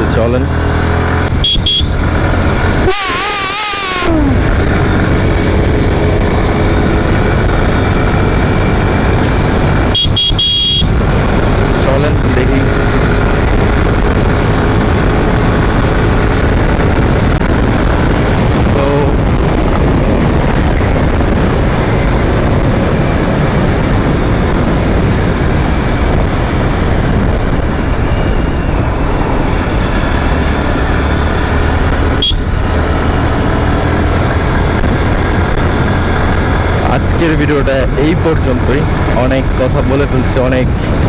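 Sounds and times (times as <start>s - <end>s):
wind rush: 0.0s - 10.2s, 10.8s - 41.0s
motorcycle engine running: 0.0s - 41.0s
passing traffic: 0.0s - 41.0s.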